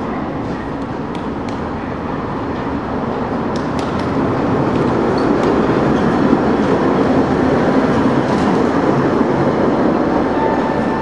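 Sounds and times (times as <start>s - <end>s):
tram wheels on rails: 0.0s - 11.0s.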